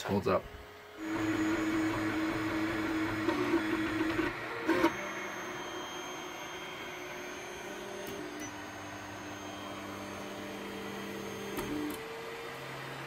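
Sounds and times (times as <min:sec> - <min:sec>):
printer hum: 0:00.0 - 0:13.0
printer motors whining: 0:00.0 - 0:13.0.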